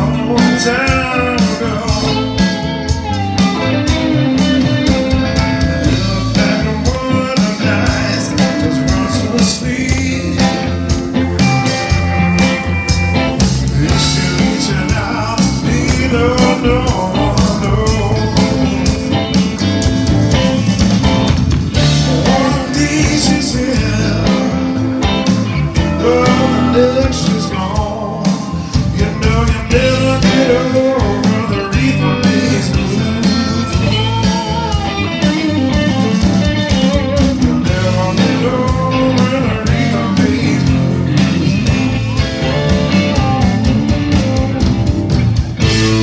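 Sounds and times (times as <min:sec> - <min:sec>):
blues-rock band playing: 0:00.0 - 0:46.0.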